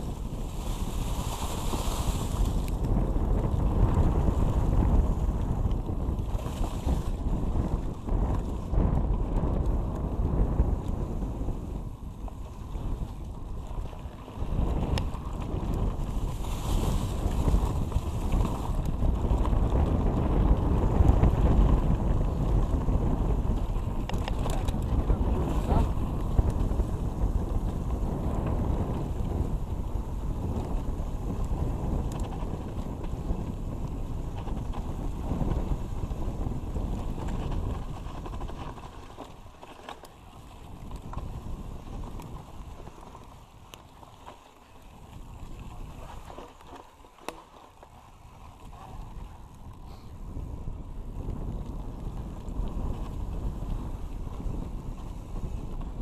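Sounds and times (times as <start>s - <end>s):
bike tyre rumble on dirt: 0.0s - 56.0s
wind on microphone: 0.0s - 56.0s.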